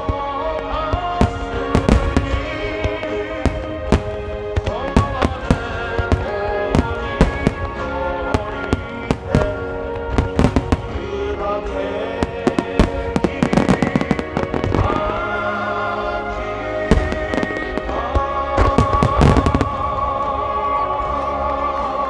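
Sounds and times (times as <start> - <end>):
music playing: 0.0 - 22.0.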